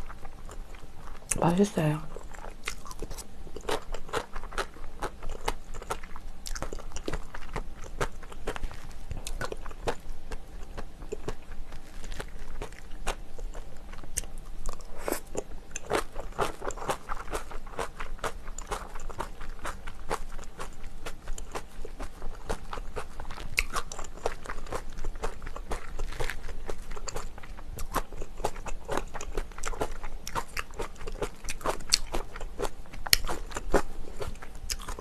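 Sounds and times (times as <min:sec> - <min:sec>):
chewing and crunching: 0:00.0 - 0:01.4, 0:02.1 - 0:35.0.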